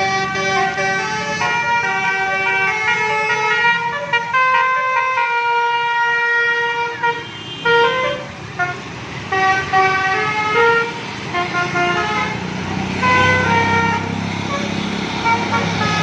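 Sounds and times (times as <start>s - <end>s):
musical air horn playing a tune: 0.0s - 12.4s, 13.0s - 16.0s
bus engine humming: 0.0s - 16.0s.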